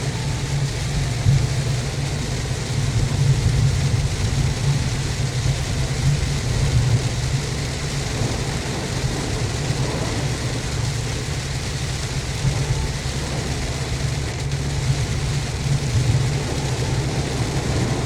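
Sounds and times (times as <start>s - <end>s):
car engine running: 0.0s - 18.0s
heavy rain on car: 0.0s - 18.0s.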